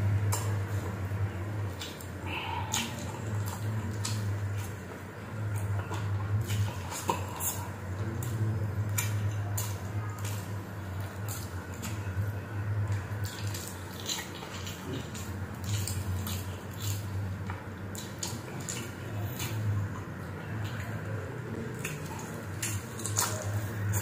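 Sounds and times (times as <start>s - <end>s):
low steady hum: 0.0s - 24.0s
wet chewing and smacking: 0.1s - 24.0s.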